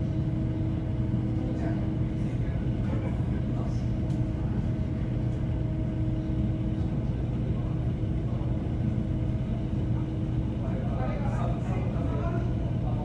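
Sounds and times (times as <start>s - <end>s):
ferry engine and machinery hum: 0.0s - 13.0s.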